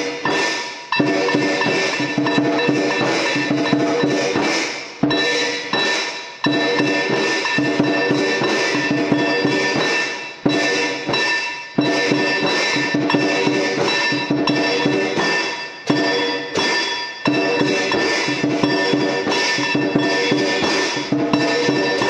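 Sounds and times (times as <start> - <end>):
drum and percussion music: 0.0 - 22.0.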